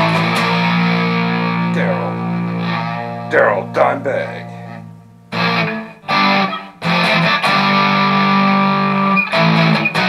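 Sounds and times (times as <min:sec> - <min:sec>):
distorted electric guitar chords: 0:00.0 - 0:10.0.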